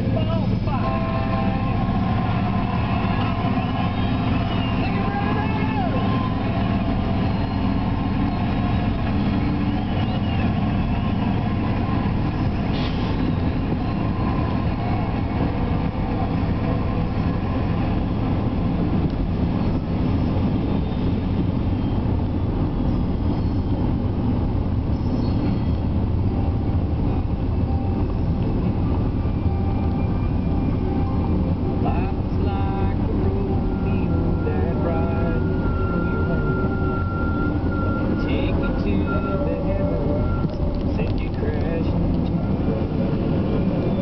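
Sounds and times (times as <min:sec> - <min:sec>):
car engine: 0:00.0 - 0:44.0
diesel locomotive rumble: 0:00.0 - 0:44.0
road noise: 0:00.0 - 0:44.0.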